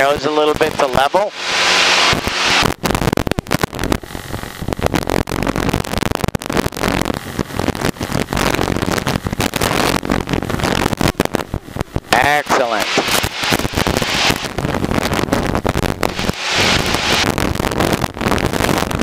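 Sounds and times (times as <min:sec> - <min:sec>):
audio crackling: 0:00.0 - 0:19.0.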